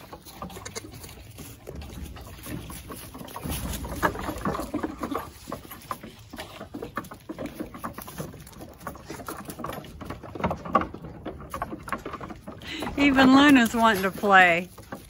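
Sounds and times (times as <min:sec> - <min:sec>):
goat hooves clattering on wood: 0:00.0 - 0:15.0.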